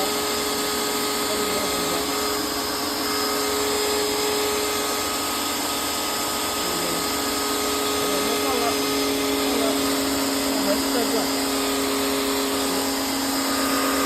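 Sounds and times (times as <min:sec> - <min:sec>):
pressure washer motor whining: 0:00.0 - 0:14.0.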